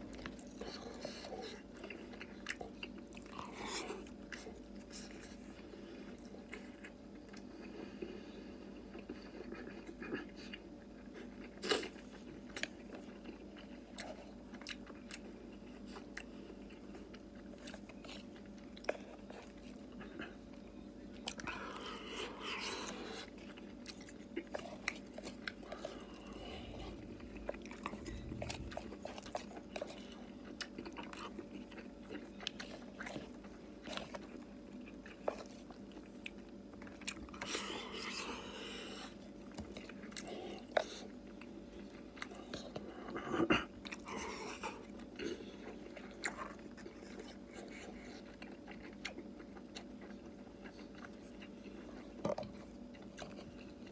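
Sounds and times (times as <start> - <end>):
man chewing and biting food: 0.0 - 53.9.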